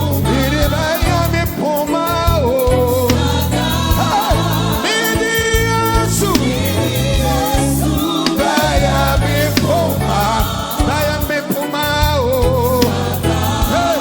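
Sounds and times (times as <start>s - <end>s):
pulsing bass line: 0.0s - 1.6s, 2.2s - 11.3s, 12.0s - 14.0s
gospel choir singing: 0.0s - 14.0s.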